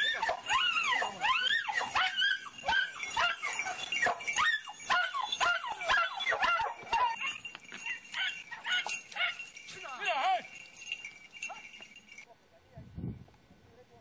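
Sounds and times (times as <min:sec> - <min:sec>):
dogs yelping and barking: 0:00.0 - 0:11.9.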